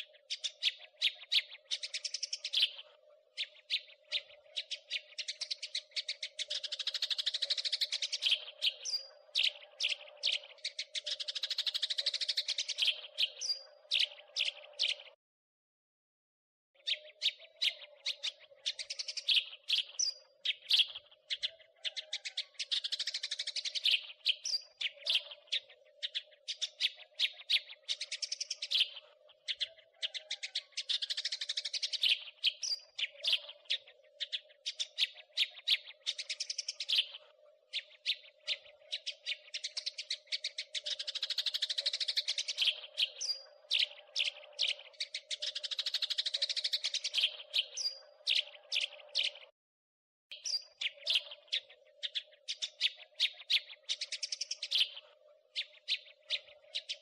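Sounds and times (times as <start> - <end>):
sparrows chirping and chattering: 0.0 - 15.2, 16.8 - 49.5, 50.3 - 57.0.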